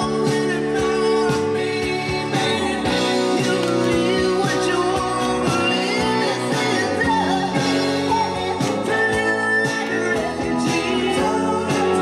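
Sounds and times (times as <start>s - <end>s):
rock song with singing: 0.0s - 12.0s.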